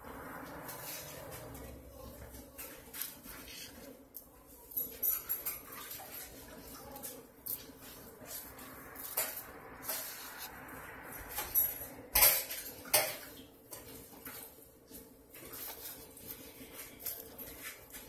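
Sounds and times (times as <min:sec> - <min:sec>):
hands patting fish in cornmeal: 0:00.1 - 0:11.6, 0:12.3 - 0:18.0.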